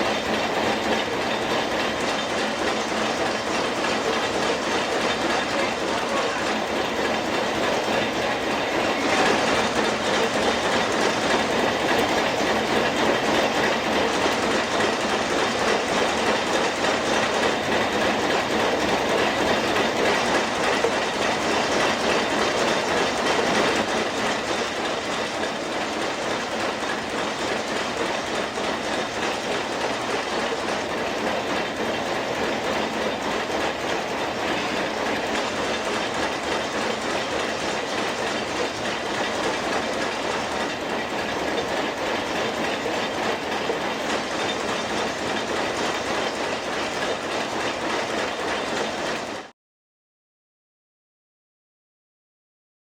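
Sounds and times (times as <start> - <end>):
rapid mechanical rattling: 0.0 - 49.5.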